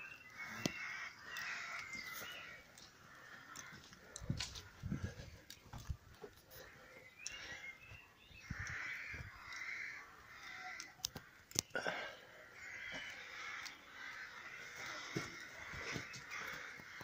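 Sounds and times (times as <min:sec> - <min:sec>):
crows cawing: 0:00.0 - 0:17.0.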